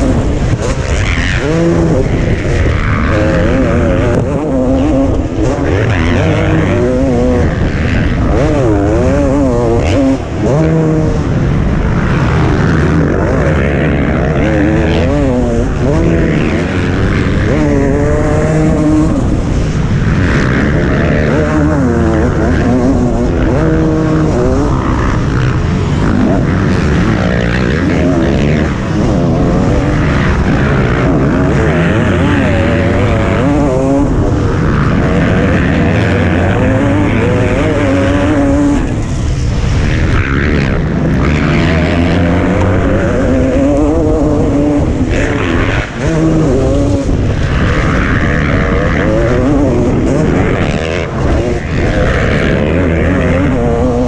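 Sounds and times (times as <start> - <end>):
motocross motorcycle engine revving: 0.0 - 54.0.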